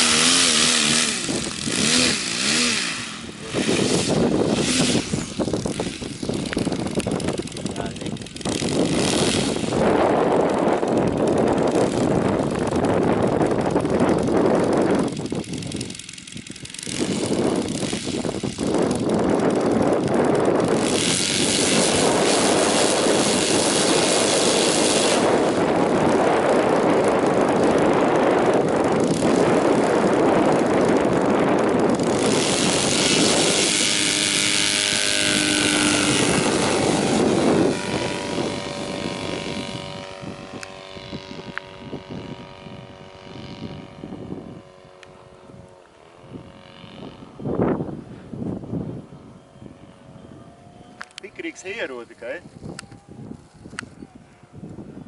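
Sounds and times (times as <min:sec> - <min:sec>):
model plane engine and propeller: 0:00.0 - 0:55.0.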